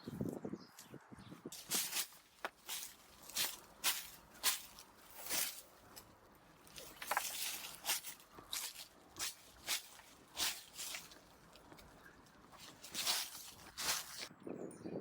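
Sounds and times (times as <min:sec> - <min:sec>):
dry leaves rustling and crunching: 0:01.5 - 0:14.3.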